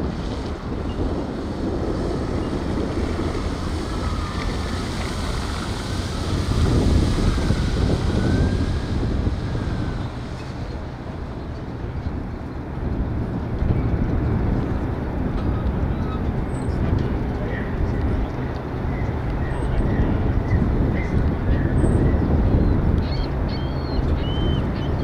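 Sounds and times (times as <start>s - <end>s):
boat motor whine: 0.0s - 25.0s
wind buffeting microphone: 0.0s - 25.0s.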